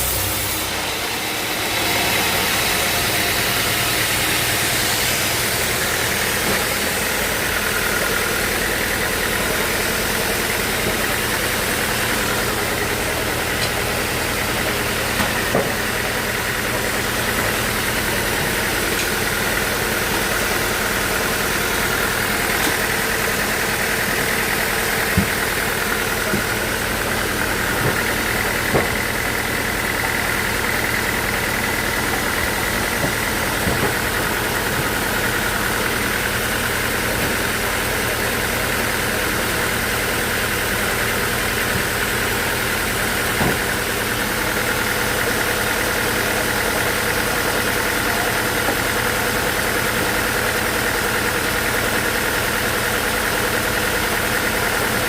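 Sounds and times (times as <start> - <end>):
portable sawmill running: 0.0 - 55.0.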